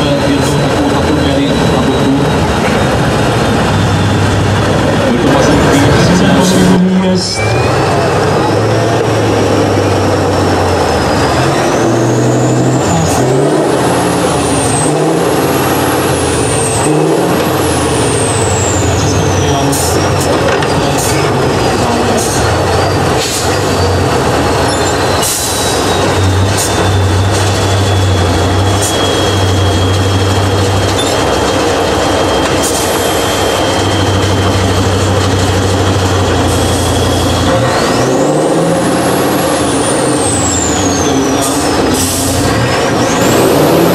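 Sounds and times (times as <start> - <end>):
truck diesel engine working hard: 0.0 - 43.9
high engine whistle: 3.4 - 43.9.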